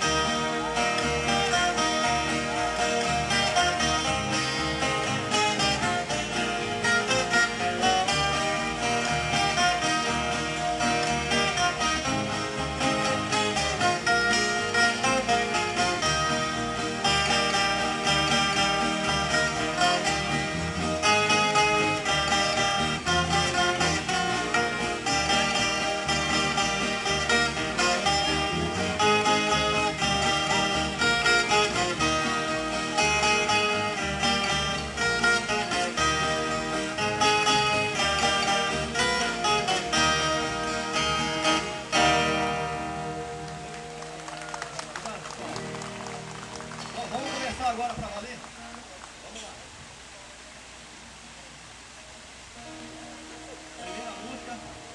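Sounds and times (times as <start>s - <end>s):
folk guitars plucked and strummed: 0.0s - 54.9s.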